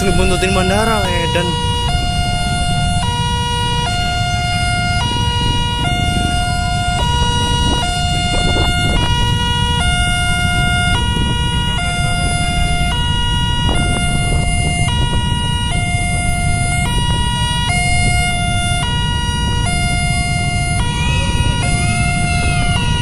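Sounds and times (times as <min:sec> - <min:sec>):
idling motorcycles and cars: 0:00.0 - 0:23.0
two-tone level crossing alarm: 0:00.0 - 0:23.0.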